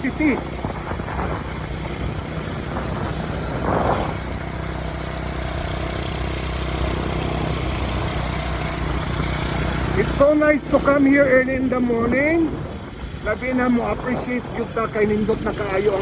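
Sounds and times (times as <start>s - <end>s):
vehicle engine hum and road noise: 0.0s - 16.0s.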